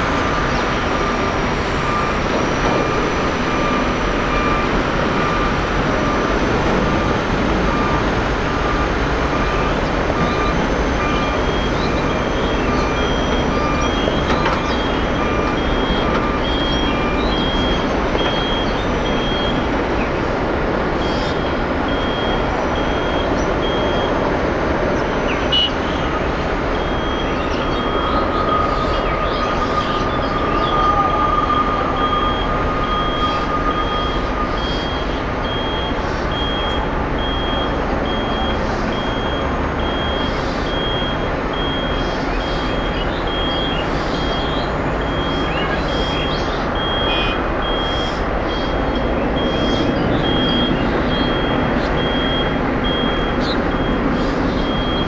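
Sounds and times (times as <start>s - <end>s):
jet engines rumbling: 0.0s - 55.0s
reversing alarm beeping: 0.0s - 55.0s.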